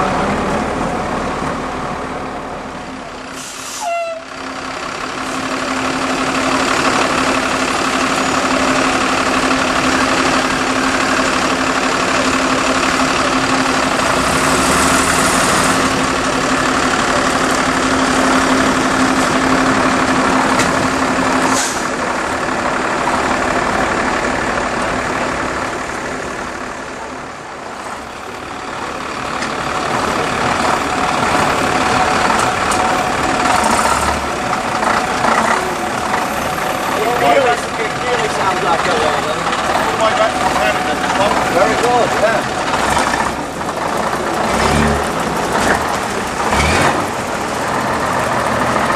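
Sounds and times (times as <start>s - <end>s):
bus diesel engine drone: 0.0s - 48.9s.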